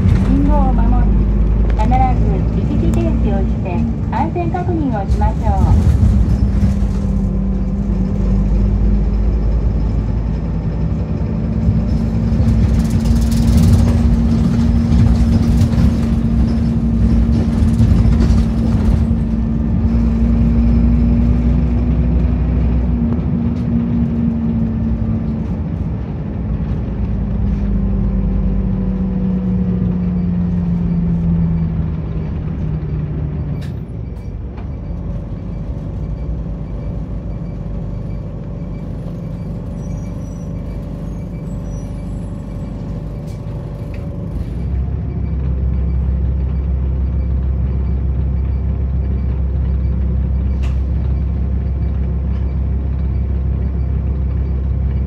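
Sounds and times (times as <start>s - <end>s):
bus engine humming: 0.0s - 55.0s
road rumble: 0.0s - 55.0s.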